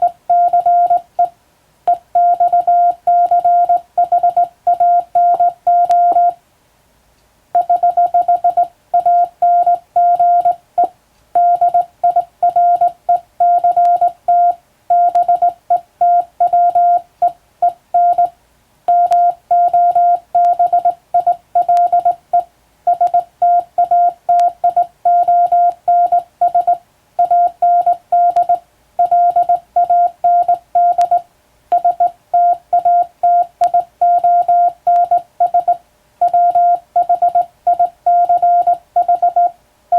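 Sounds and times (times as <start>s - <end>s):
morse code beeps: 0.0s - 1.3s, 1.9s - 6.4s, 7.6s - 18.3s, 18.9s - 39.6s.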